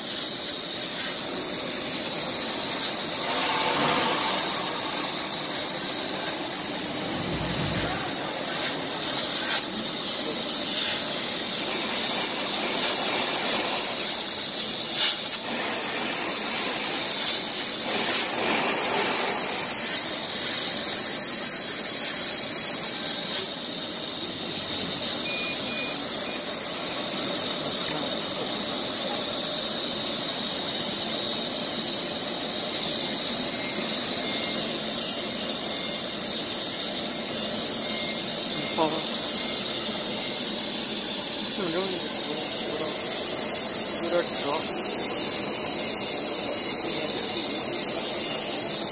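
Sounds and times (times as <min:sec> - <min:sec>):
laser cutter air hiss: 0:00.0 - 0:48.9.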